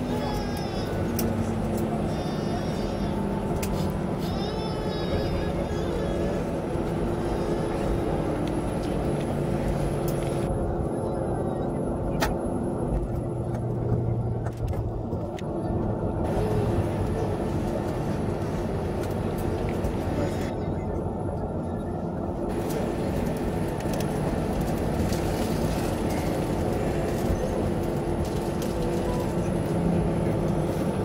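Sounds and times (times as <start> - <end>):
jet engines rumbling in cabin: 0.0 - 31.0.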